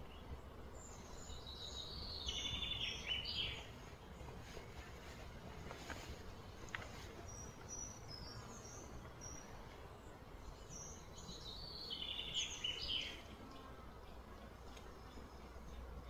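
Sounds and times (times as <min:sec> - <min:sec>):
low outdoor background hum: 0:00.0 - 0:16.0
small birds chirping: 0:00.0 - 0:16.0.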